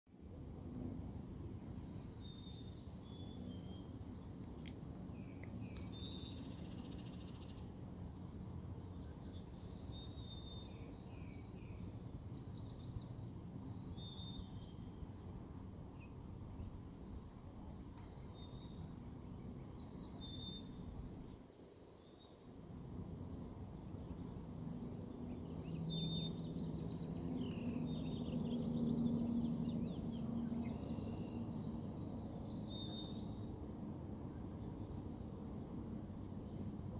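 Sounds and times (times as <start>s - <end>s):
songbird singing: 1.6s - 22.5s, 23.2s - 33.6s, 34.3s - 36.9s.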